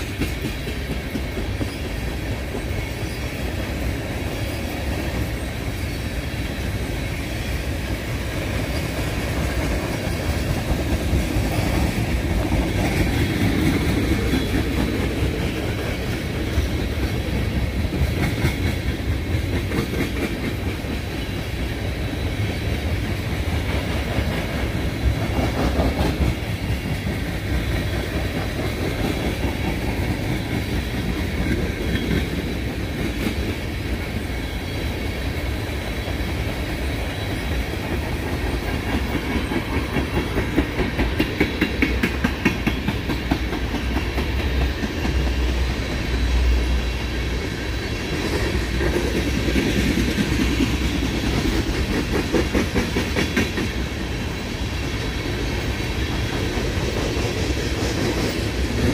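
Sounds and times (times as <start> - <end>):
clickety-clack over rail joints: 0.0 - 58.9
train wheels rumbling on rail: 0.0 - 58.9.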